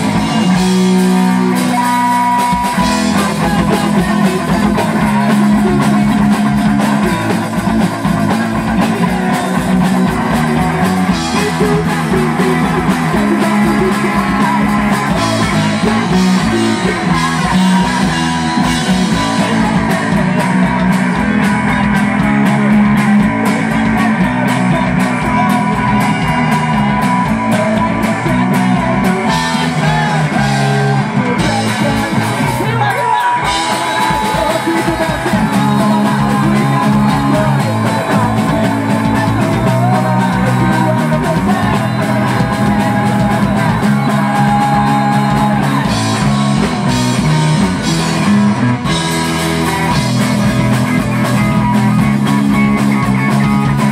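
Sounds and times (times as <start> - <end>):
drums: 0.0 - 53.9
electric bass: 0.0 - 53.9
electric guitar: 0.0 - 53.9
person singing lead vocal: 0.0 - 53.9.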